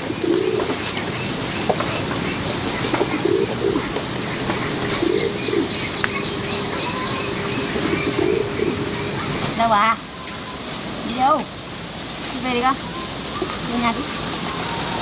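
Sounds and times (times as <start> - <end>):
dove cooing: 0.0 - 15.0
steady background hiss: 0.0 - 15.0.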